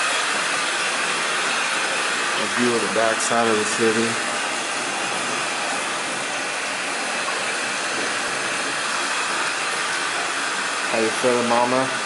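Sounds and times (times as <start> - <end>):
tap water running into bathtub: 0.0 - 12.0.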